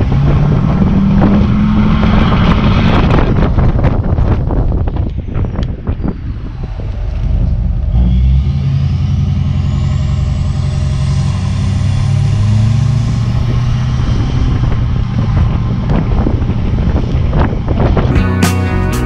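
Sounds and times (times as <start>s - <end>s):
road and wind rumble: 0.0s - 19.0s.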